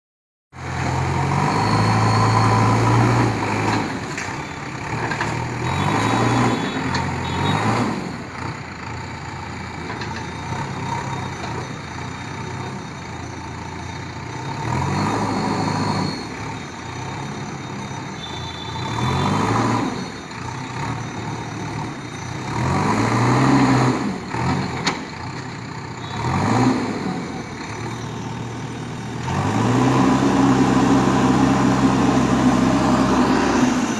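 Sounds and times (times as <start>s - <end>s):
bulldozer engine revving: 0.6s - 33.9s.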